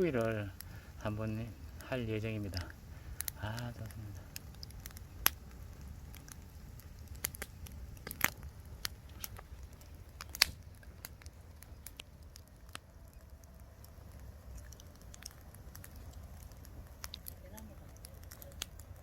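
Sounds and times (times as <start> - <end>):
campfire pops and snaps: 0.0 - 19.0
low steady rumble: 0.0 - 19.0.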